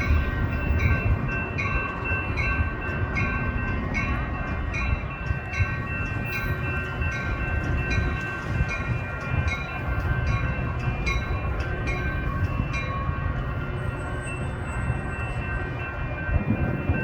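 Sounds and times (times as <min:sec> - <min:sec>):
train cars rumbling past: 0:00.0 - 0:17.0.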